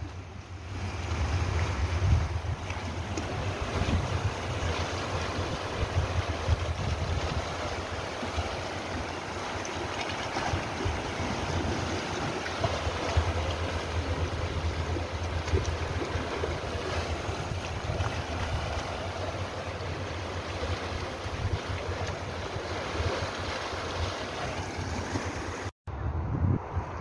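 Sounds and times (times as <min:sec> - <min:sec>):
sea waves washing over rocks: 0:00.0 - 0:25.7
wind rumbling on microphone: 0:00.0 - 0:27.0.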